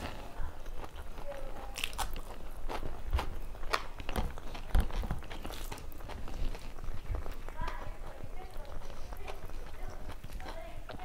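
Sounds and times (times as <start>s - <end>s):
person chewing and crunching food: 0.0s - 11.0s.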